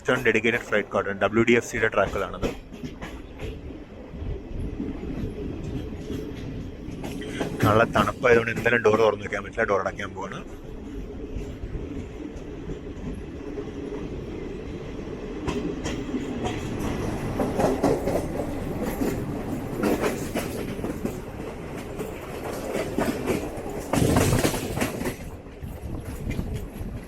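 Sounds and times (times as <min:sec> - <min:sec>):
train coach rumble: 0:00.0 - 0:27.0
wheels clicking over rail joints: 0:01.6 - 0:03.8, 0:04.6 - 0:09.2, 0:10.4 - 0:27.0.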